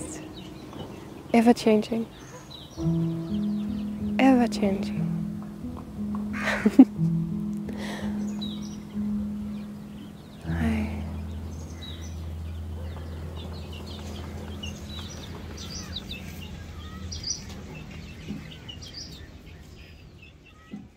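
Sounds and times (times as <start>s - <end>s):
low steady hum: 0.0s - 19.4s
chicks peeping: 0.0s - 20.9s.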